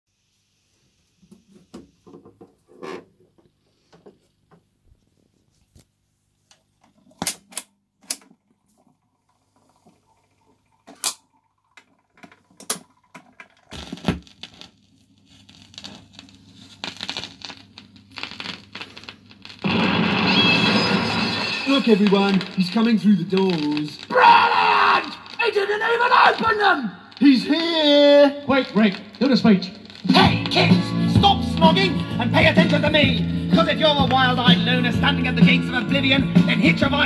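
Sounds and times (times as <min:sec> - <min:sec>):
record surface crackle: 0:04.2 - 0:07.3, 0:08.1 - 0:37.0.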